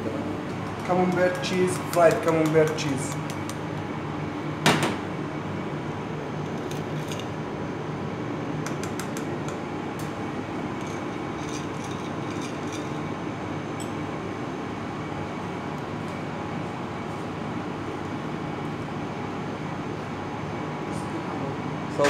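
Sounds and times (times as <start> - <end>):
kitchen ventilation hum: 0.0 - 22.0.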